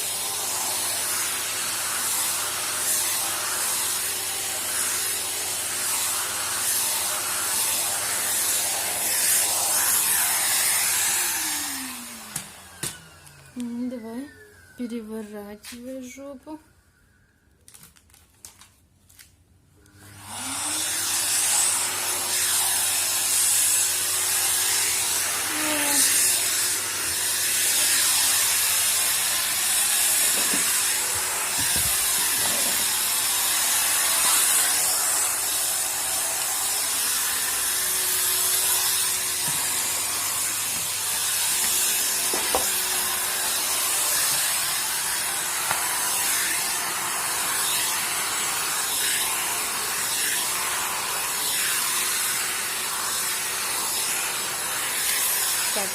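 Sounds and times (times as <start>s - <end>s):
vacuum cleaner running: 0.0s - 16.1s, 19.8s - 55.9s.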